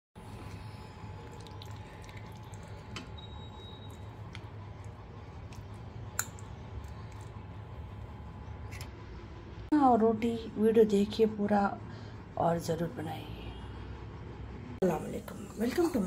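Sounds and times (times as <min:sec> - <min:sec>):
steady low hum: 0:00.2 - 0:16.0.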